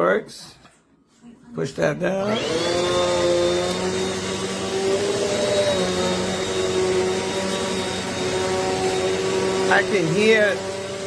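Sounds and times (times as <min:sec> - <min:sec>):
vacuum cleaner running: 0:02.1 - 0:11.0.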